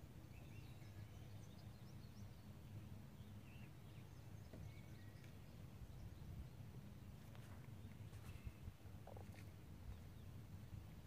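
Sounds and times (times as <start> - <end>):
faint low outdoor rumble: 0.0 - 11.0.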